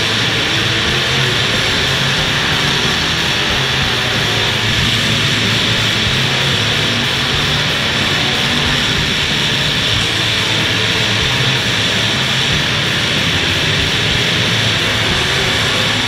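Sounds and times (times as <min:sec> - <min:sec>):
car engines running loud: 0:00.0 - 0:16.0.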